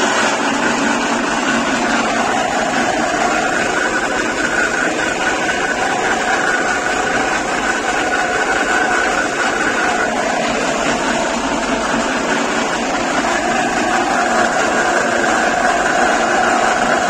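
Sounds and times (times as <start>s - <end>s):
pellet mill machine whining: 0.0s - 17.0s.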